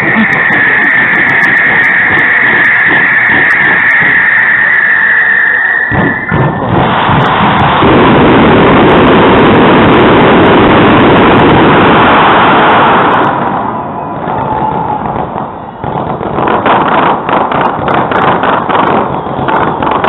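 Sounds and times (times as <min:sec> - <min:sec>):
fireworks bursting: 0:00.0 - 0:20.0
fireworks crackling pops: 0:00.0 - 0:20.0.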